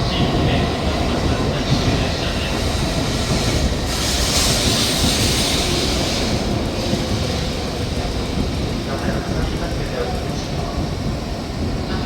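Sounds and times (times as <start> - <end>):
train rumbling on rails: 0.0 - 12.0
high train hiss: 0.1 - 12.0.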